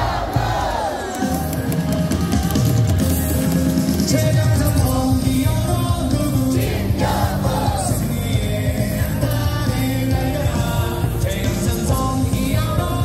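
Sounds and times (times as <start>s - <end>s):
cheer song over stadium loudspeakers: 0.0s - 13.0s
crowd singing along: 0.0s - 13.0s.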